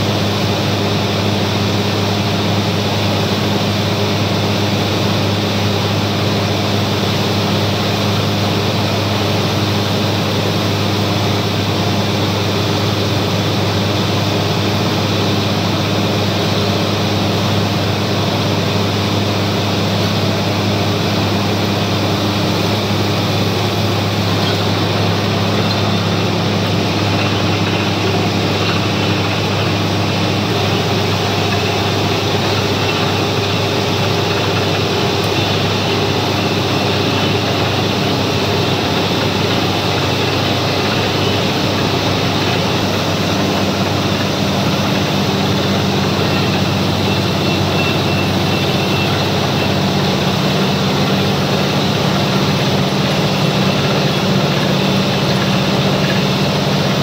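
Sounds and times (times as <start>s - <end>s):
drilling rig engine running: 0.0s - 57.0s.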